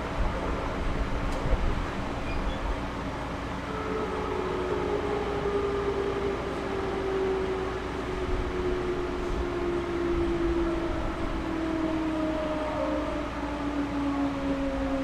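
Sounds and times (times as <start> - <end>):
train wheels rumbling on rail: 0.0 - 13.5.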